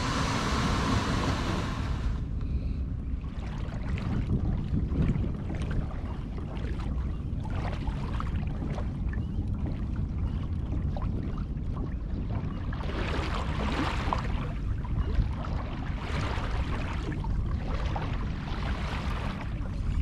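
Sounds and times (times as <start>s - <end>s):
water splashing against kayak hull: 0.0s - 2.3s, 3.3s - 20.0s
wind rumble on microphone: 0.0s - 20.0s.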